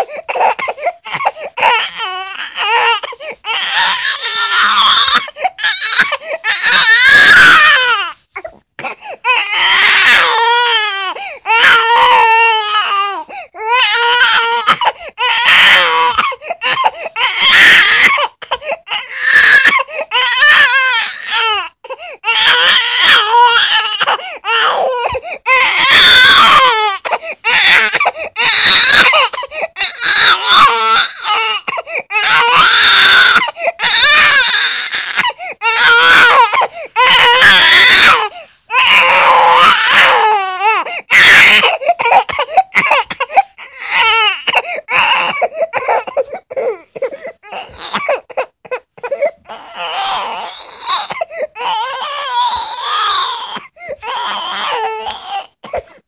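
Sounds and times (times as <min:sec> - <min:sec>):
baby crying: 0:00.0 - 0:56.0.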